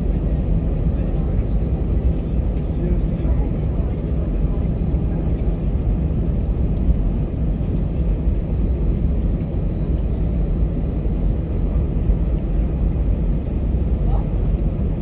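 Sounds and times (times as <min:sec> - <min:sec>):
aircraft engines idling in cabin: 0:00.0 - 0:15.0.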